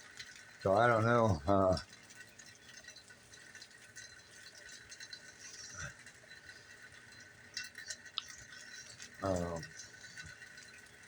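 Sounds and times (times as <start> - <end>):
drips and ticks: 0.0 - 11.0
rain falling faintly: 0.0 - 11.0.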